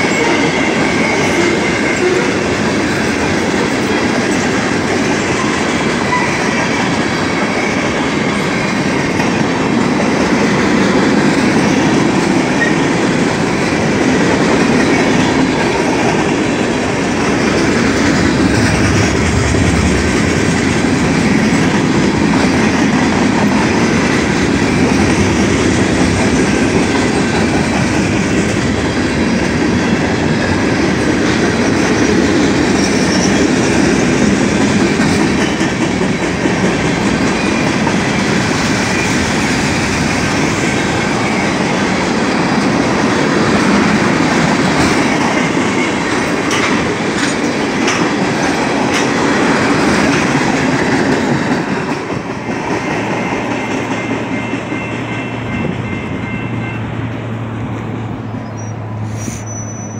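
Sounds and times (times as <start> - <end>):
clickety-clack over rail joints: 0.0 - 58.0
freight train wheels rumbling: 0.0 - 59.9.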